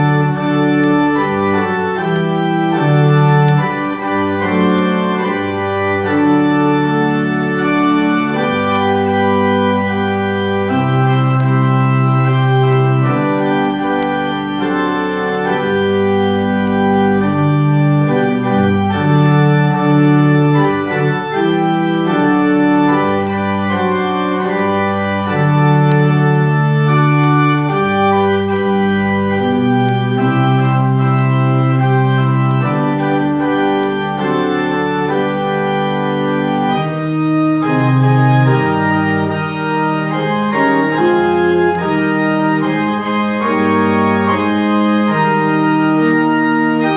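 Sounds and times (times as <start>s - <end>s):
pipe organ chords: 0.0s - 46.9s.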